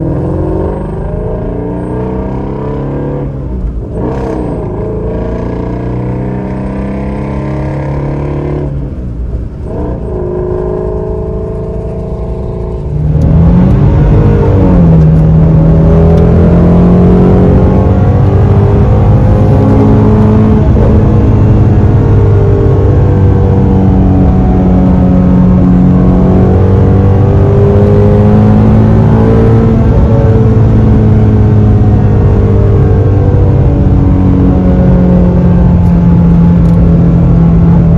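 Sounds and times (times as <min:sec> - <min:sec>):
car engine revving while driving: 0:00.0 - 0:37.9.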